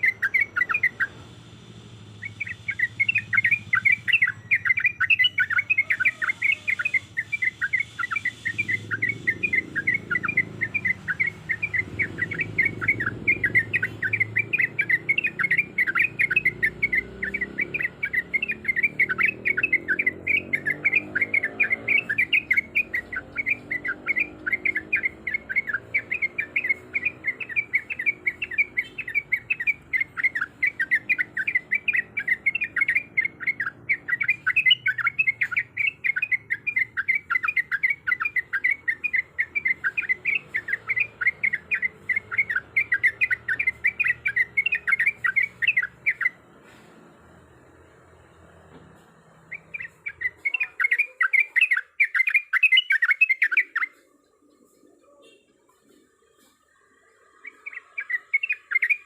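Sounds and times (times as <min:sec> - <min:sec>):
bulbul chattering chirps: 0:00.0 - 0:59.0.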